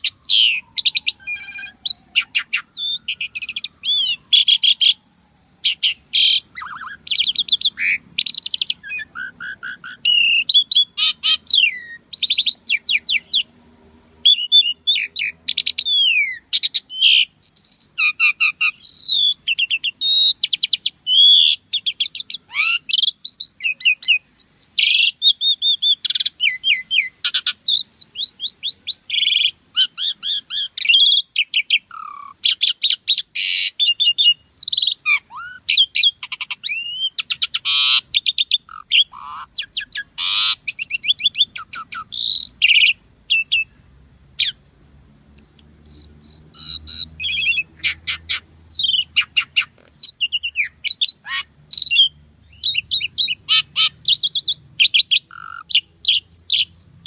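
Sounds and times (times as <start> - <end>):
starling singing: 0.0 - 43.8, 44.4 - 44.6, 45.4 - 57.0.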